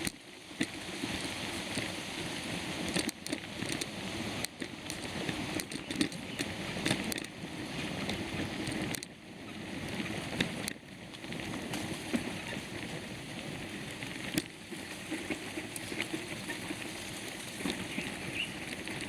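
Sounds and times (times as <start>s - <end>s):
bike clicks and rattles: 0.0s - 19.0s
bike tyres rushing over dirt: 0.0s - 19.0s.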